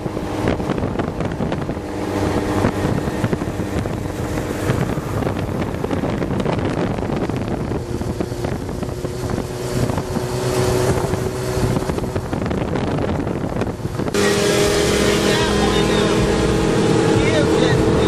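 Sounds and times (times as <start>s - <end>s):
motorcycles riding: 0.0s - 18.0s
road and engine noise: 0.0s - 18.0s
wind buffeting microphone: 0.0s - 18.0s.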